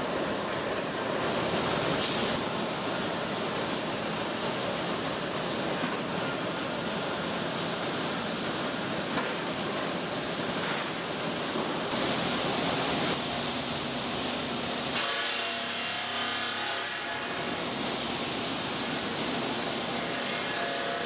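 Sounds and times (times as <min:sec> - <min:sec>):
steel rolling mill noise: 0:00.0 - 0:21.0.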